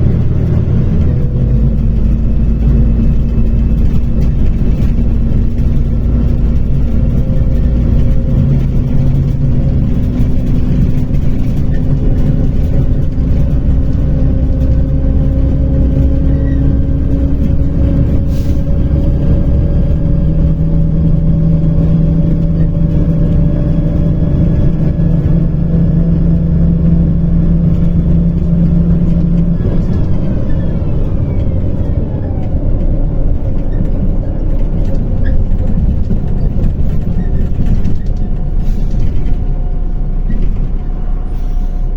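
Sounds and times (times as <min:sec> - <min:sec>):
bus engine drone: 0:00.0 - 0:41.9
falling whine of bus slowing: 0:00.0 - 0:41.9.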